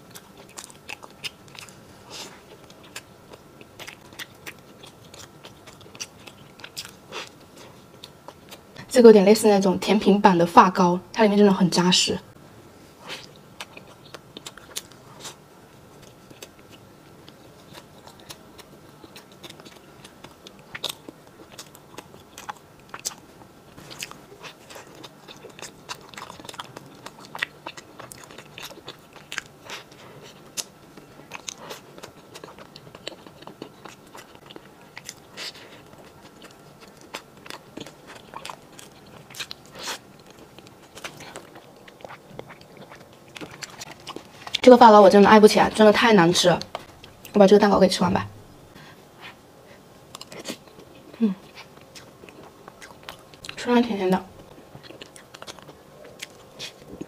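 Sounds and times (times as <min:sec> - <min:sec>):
person chewing cake: 0:00.0 - 0:08.9, 0:12.9 - 0:44.7, 0:46.5 - 0:47.4, 0:48.5 - 0:53.7, 0:54.3 - 0:57.0.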